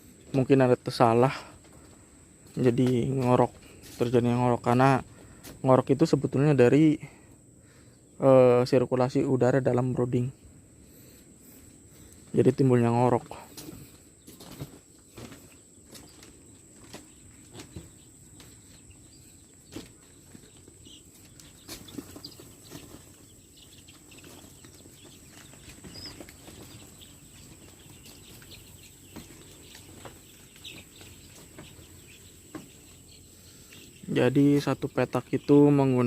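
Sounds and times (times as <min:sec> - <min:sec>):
chicks peeping: 0:00.0 - 0:36.0.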